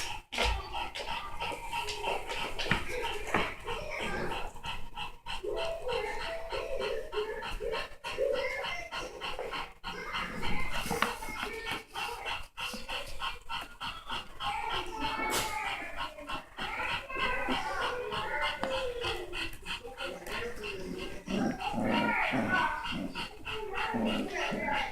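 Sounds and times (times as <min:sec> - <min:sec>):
dog panting: 0:00.0 - 0:24.9.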